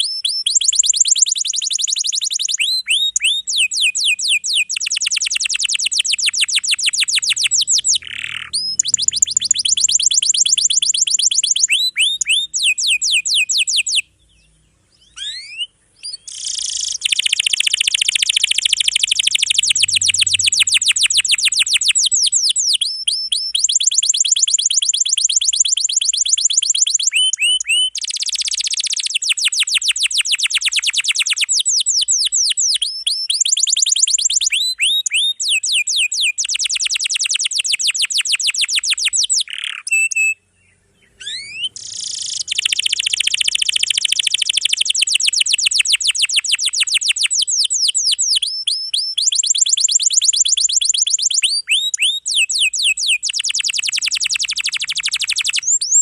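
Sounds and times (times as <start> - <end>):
canary singing rolling trills: 0.0 - 56.0.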